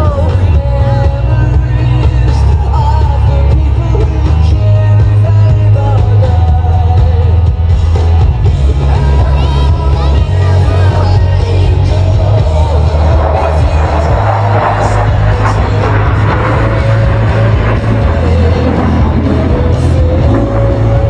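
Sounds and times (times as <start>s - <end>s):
heavy bass: 0.0s - 21.0s
pop-rock song with singer: 0.0s - 21.0s.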